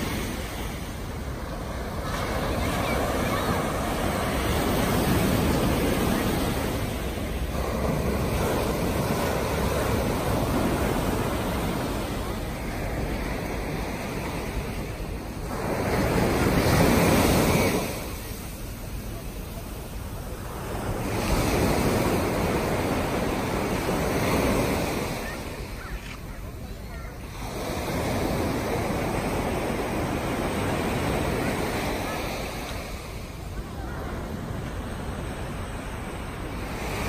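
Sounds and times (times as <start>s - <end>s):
surf washing up a sand beach: 0.0s - 37.0s.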